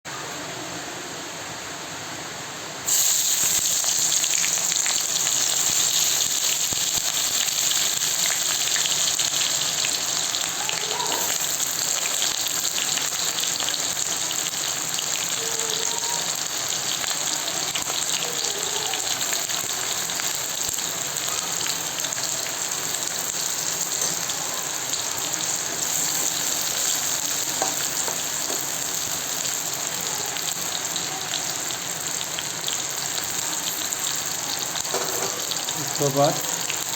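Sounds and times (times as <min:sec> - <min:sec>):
food frying in hot oil: 0:02.7 - 0:36.9.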